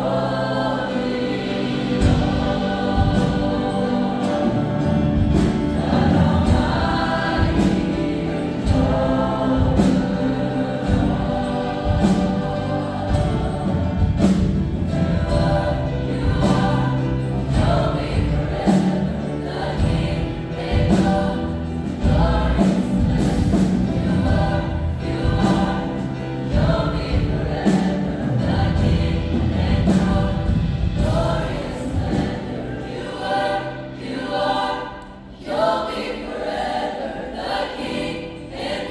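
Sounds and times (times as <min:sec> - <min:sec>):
gospel choir singing: 0:00.0 - 0:38.9.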